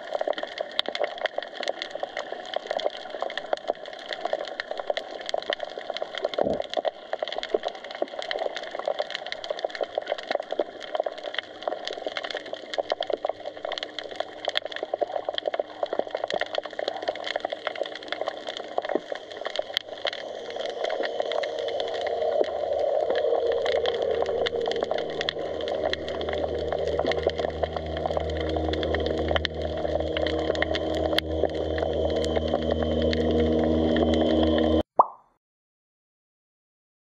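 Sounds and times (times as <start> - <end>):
underwater crackling: 0.0 - 35.3.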